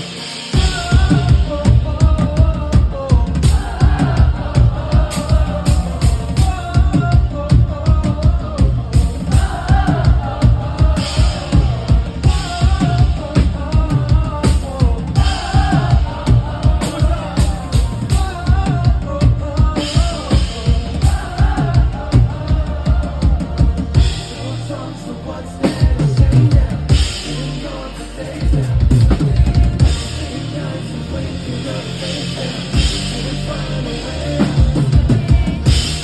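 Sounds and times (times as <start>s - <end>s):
live pop band: 0.0s - 36.0s
person singing: 0.0s - 36.0s.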